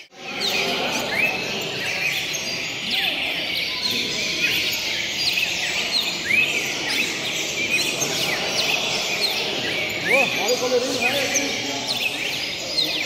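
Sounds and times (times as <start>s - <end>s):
many songbirds chirping: 0.0s - 13.0s.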